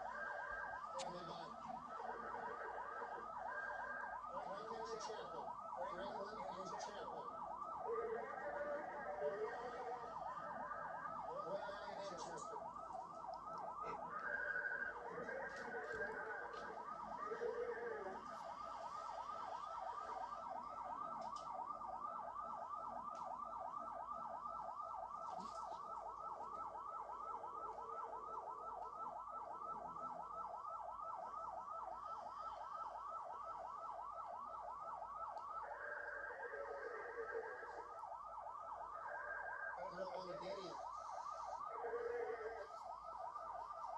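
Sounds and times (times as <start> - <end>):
police siren yelping: 0.0 - 43.9
short siren tones: 0.0 - 43.9.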